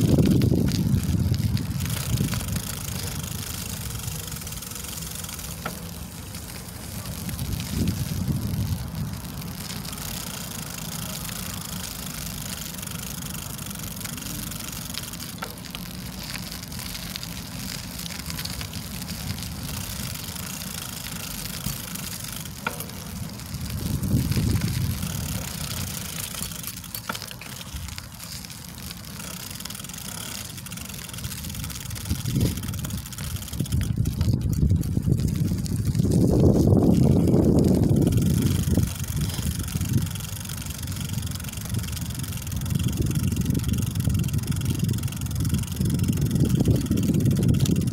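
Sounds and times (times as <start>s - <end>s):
bicycle rolling over rough asphalt: 0.0s - 47.9s
sharp clicks from bumps: 0.0s - 47.9s.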